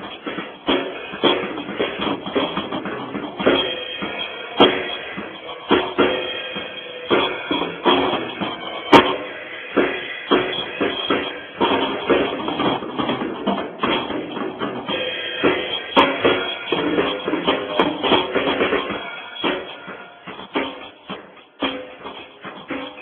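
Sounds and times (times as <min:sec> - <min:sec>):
drum kit playing: 0:00.0 - 0:23.0.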